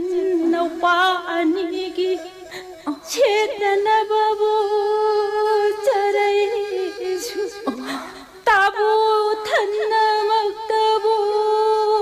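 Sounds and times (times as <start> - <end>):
person singing solo chant: 0.0 - 12.0.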